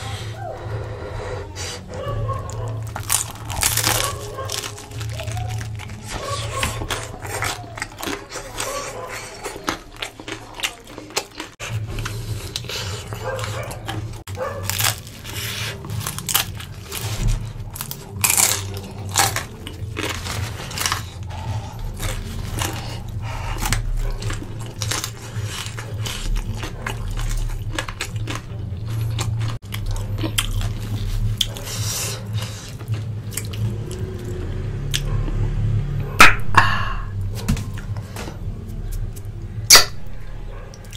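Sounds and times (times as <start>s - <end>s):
crisp chewing crunches: 1.6s - 35.4s.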